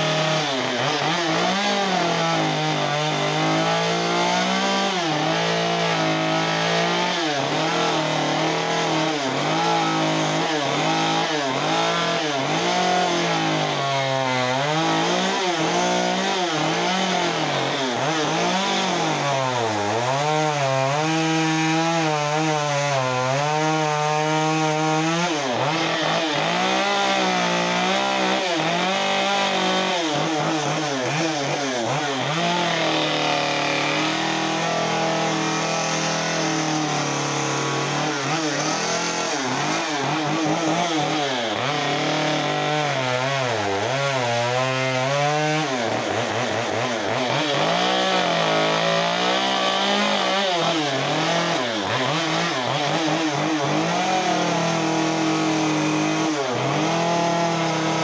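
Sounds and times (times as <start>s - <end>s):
chainsaw carving wood: 0.0s - 58.0s.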